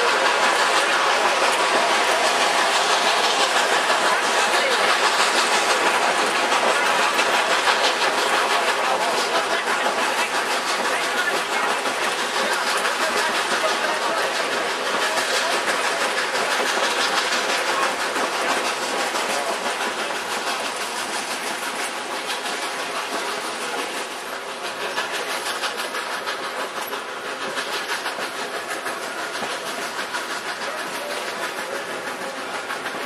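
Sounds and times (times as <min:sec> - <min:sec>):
steam locomotive working: 0:00.0 - 0:33.0
train wheels rolling and rattling: 0:00.0 - 0:33.0.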